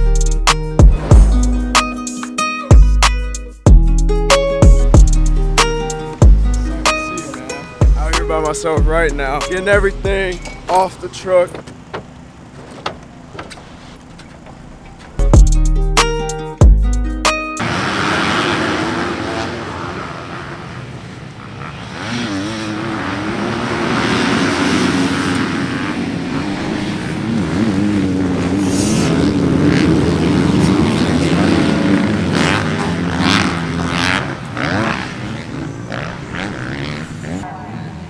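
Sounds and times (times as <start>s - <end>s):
dirt bike engines revving: 4.6s - 15.4s, 17.6s - 38.0s.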